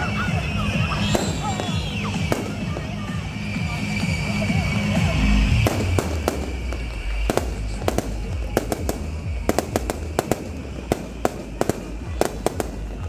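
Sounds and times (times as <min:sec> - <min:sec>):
fireworks cracking and popping: 0:00.0 - 0:13.0
low rumble: 0:00.0 - 0:13.0.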